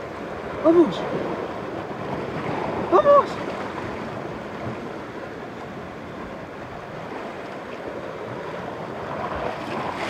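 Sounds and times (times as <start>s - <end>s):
sea surf washing: 0.0s - 10.0s.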